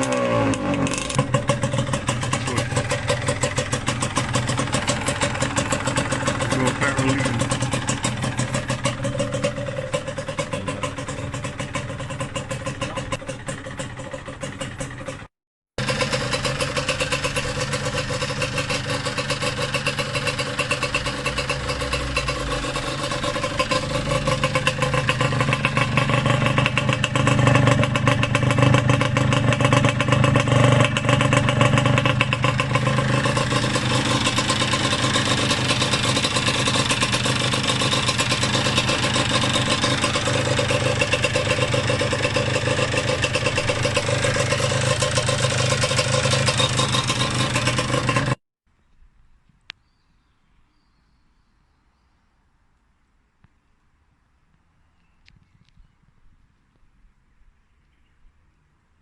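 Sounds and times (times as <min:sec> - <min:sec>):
two-stroke motorcycle engine running: 0:00.0 - 0:48.4.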